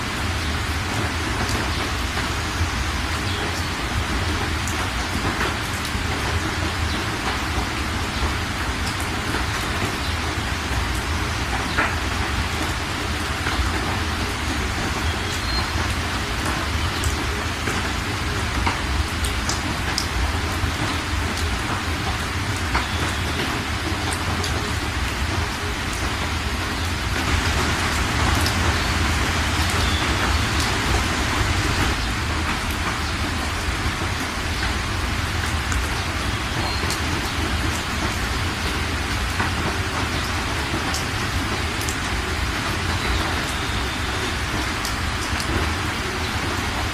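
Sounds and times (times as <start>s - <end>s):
heavy rain pouring: 0.0s - 46.9s
sharp drips on surfaces: 0.0s - 46.9s.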